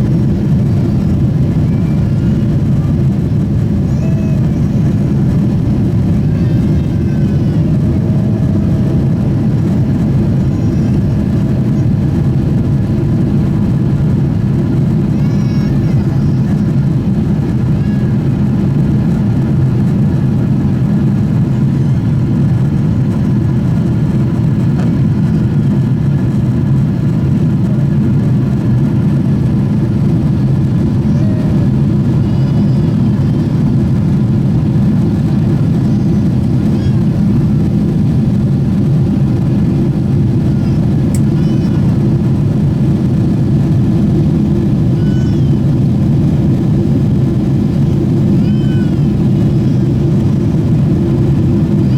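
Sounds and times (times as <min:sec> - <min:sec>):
jet engines roaring in cabin: 0:00.0 - 0:51.9.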